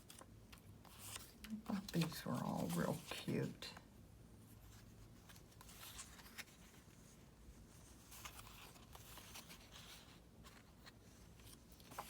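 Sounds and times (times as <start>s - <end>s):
paper rustling and scraping: 0.0s - 3.6s, 4.5s - 12.0s.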